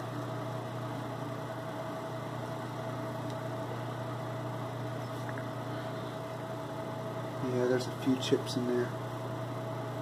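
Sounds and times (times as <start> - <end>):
faint steady whine: 0.0 - 10.0
machine motor hum: 0.0 - 10.0.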